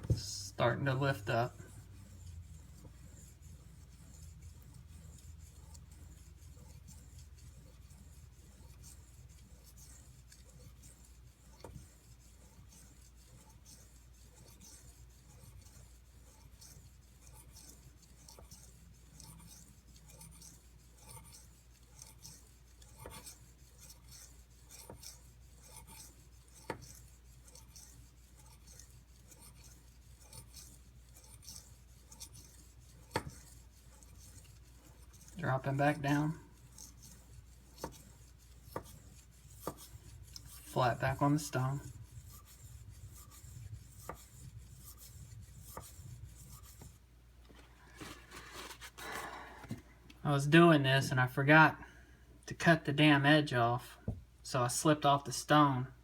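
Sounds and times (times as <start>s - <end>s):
knife scraping on whetstone: 0.0s - 49.2s.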